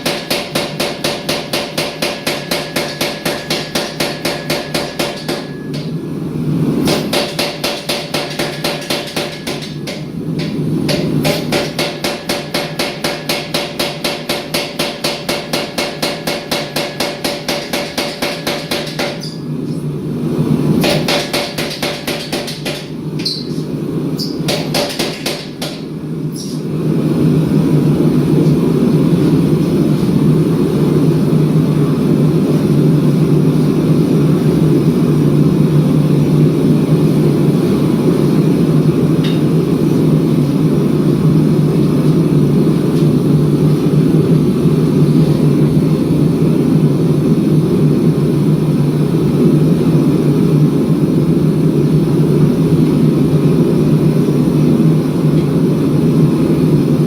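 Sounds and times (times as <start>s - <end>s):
gas forge burner roaring: 0.0s - 57.0s.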